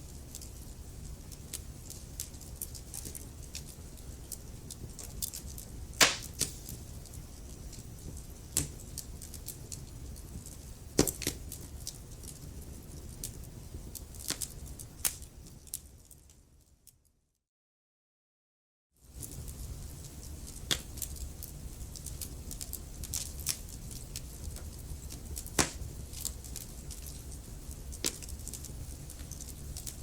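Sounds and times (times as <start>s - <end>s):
wood fire crackling: 0.0s - 16.7s, 19.0s - 30.0s.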